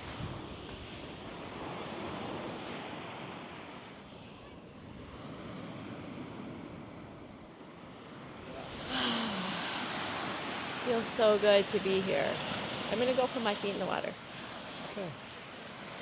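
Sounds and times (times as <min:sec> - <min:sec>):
small waves washing onto beach: 0:00.0 - 0:16.0.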